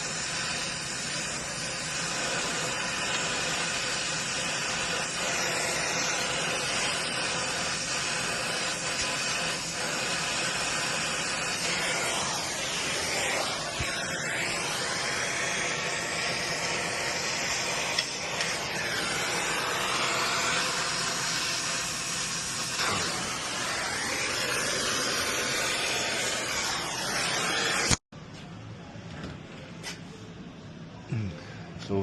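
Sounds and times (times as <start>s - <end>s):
torch flame hissing: 0.0s - 28.1s.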